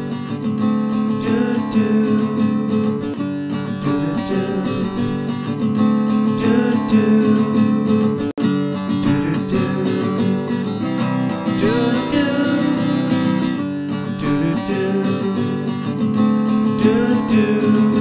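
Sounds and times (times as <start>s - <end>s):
strummed acoustic guitar music: 0.0s - 18.0s.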